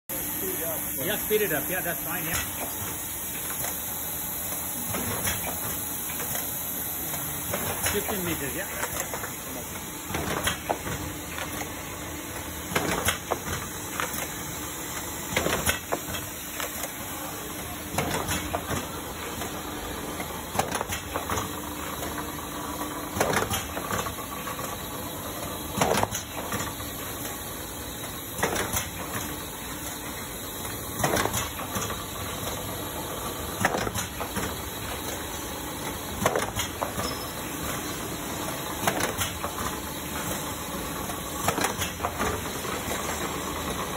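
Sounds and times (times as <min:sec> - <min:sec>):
laminator hum and hiss: 0:00.1 - 0:43.9.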